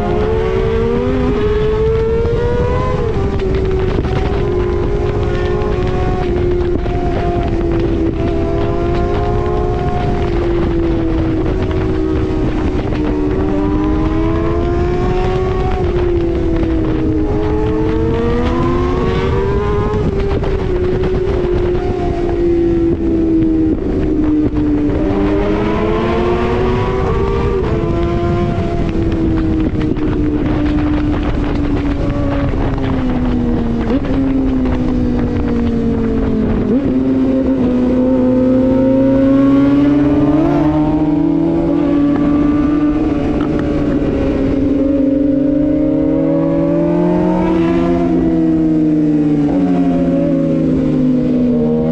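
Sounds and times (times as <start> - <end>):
motorcycle engine revving: 0.0 - 51.9
road rumble: 0.0 - 51.9
wind noise: 0.0 - 51.9.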